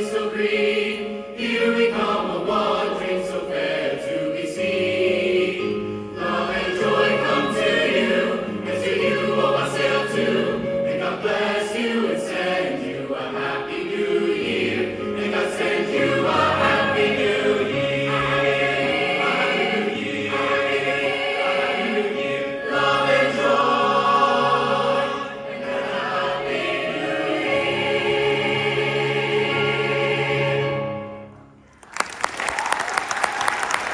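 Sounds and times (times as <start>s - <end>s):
school choir singing: 0.0s - 31.3s.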